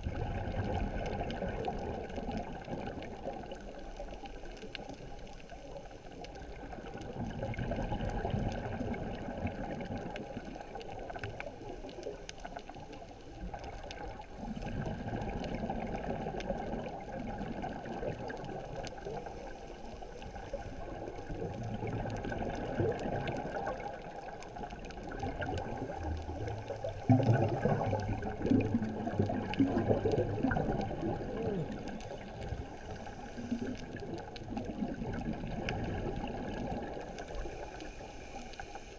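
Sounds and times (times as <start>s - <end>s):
muffled underwater rushing water: 0.0s - 38.9s.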